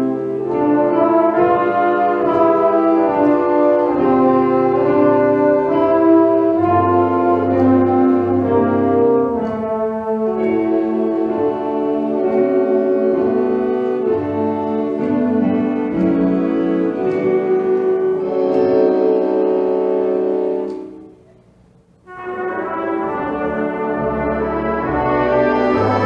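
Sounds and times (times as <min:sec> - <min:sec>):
wind band playing held chords: 0:00.0 - 0:26.0.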